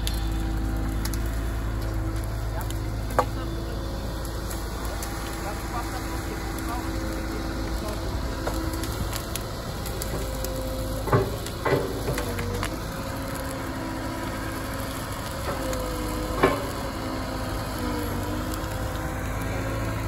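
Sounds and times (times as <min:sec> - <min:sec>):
brush fire crackling and hissing: 0:00.0 - 0:20.0
excavator engine and hydraulics whine: 0:00.0 - 0:20.0.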